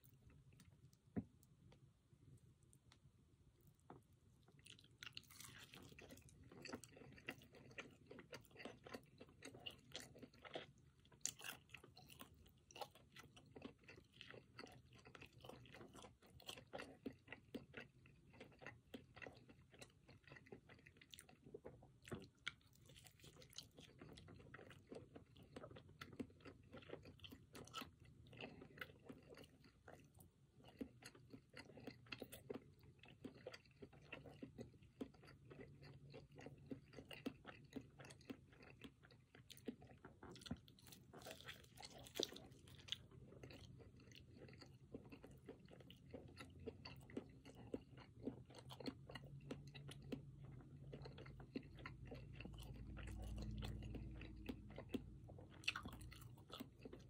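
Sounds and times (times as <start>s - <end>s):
person chewing with crunches: 0.0s - 57.0s.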